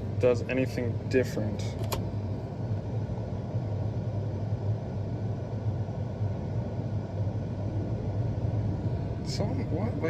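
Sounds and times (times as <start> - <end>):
combine harvester drone in cab: 0.0 - 10.0.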